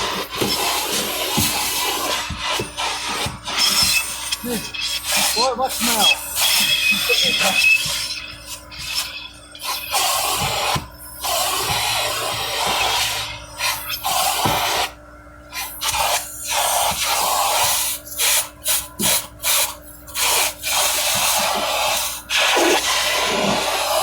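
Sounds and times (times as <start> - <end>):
vacuum cleaner suction: 0.0 - 14.9, 15.5 - 24.0.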